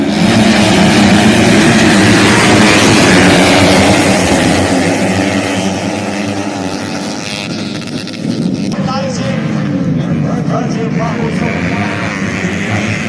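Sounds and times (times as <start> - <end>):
motocross bike engine at high revs: 0.0 - 13.0.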